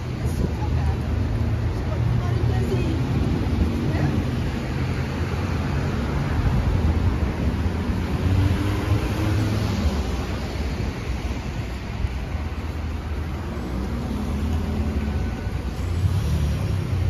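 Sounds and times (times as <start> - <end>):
car engines rumbling: 0.0 - 17.0.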